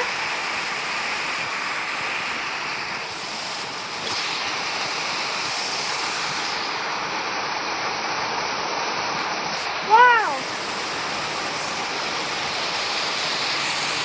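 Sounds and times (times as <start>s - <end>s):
heavy rain on a metal roof: 0.0s - 14.0s.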